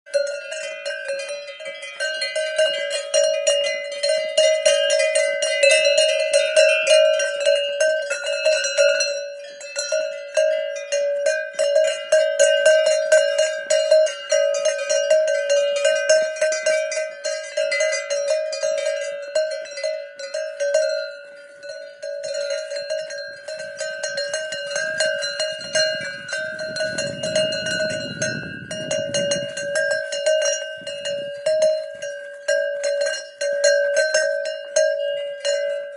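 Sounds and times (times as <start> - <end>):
cowbell clanging: 0.1 - 35.9.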